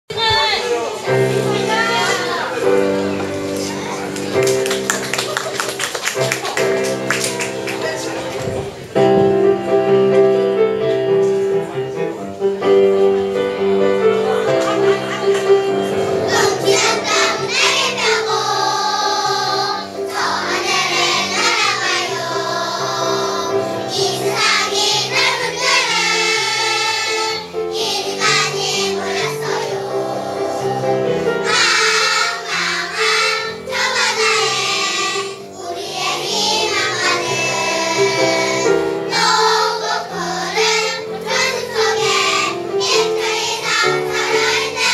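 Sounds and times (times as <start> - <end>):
children's choir singing: 0.6 - 8.4, 13.3 - 44.9
instrumental accompaniment: 0.9 - 44.9.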